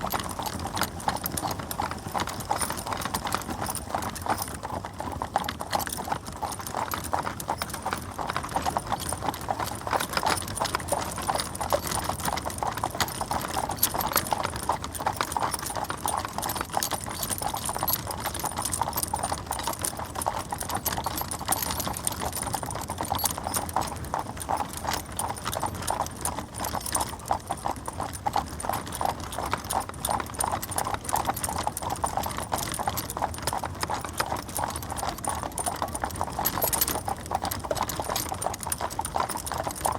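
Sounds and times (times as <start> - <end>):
horse hooves clip-clopping: 0.0 - 39.9.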